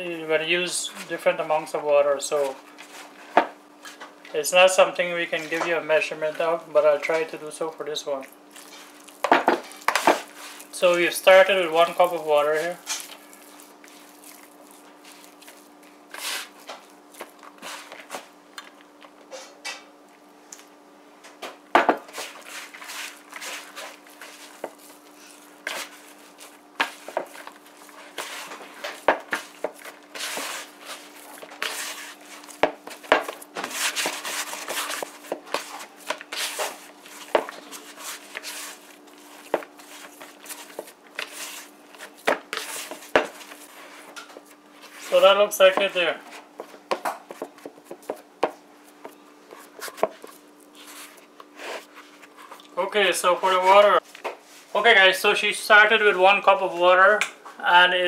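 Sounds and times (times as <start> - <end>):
hands kneading dough: 4.6 - 19.1, 21.9 - 54.7.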